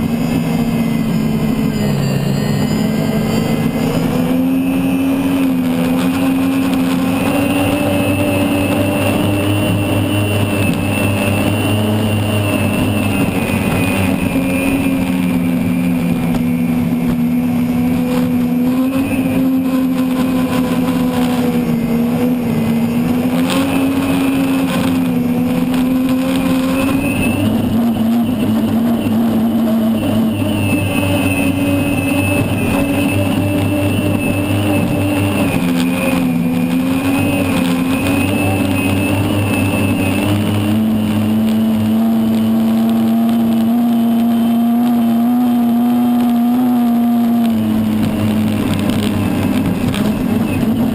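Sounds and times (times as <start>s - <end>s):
gas turbine engine whine: 0.0s - 50.9s.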